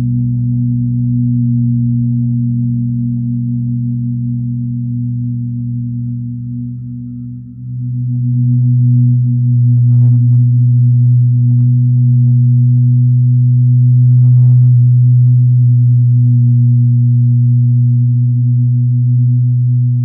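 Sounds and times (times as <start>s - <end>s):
electronic drone music: 2.9s - 20.0s.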